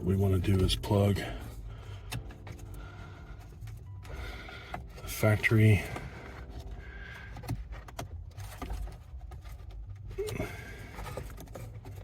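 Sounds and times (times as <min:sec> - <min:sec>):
plastic rubbing: 0:00.0 - 0:12.0.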